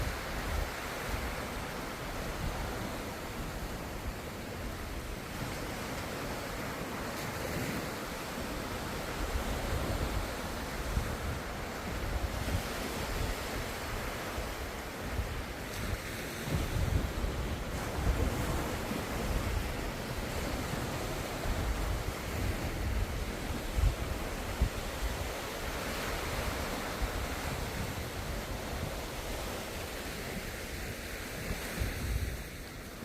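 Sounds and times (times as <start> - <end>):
waves breaking: 0.0 - 33.0.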